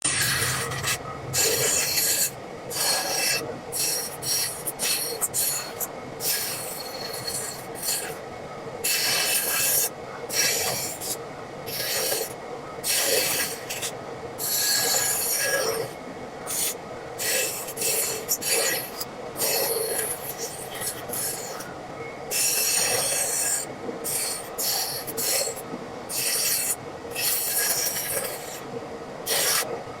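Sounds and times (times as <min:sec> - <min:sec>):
tools scraping and rasping on wood: 0:00.1 - 0:08.2, 0:08.8 - 0:11.1, 0:11.7 - 0:15.9, 0:16.5 - 0:21.7, 0:22.3 - 0:28.6, 0:29.3 - 0:29.7.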